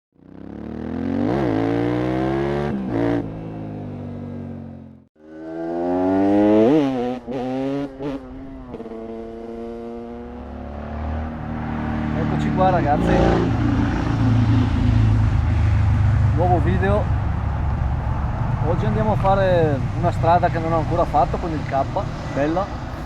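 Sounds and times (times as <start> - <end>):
motorcycle engine accelerating: 0.2 - 23.0.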